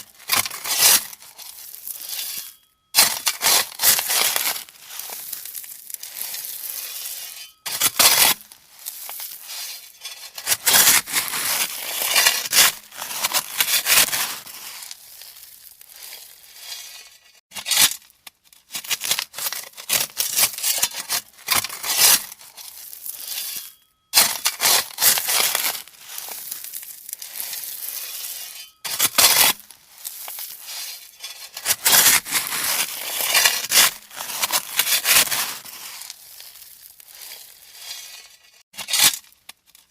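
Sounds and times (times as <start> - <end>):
shovel scraping gravel: 0.0 - 18.1, 18.7 - 39.9.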